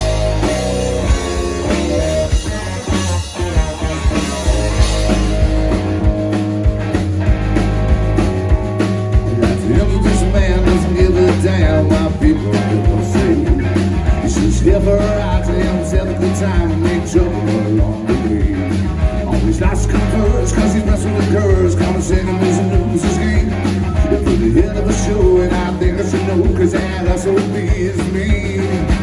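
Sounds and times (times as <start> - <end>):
bass guitar: 0.0 - 29.0
drum kit: 0.0 - 29.0
electric guitar: 0.0 - 29.0.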